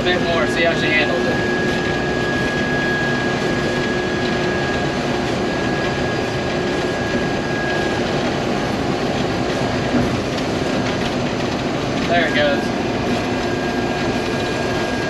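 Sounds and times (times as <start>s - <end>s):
combine harvester threshing: 0.0s - 15.0s
thin steady whine: 0.0s - 15.0s.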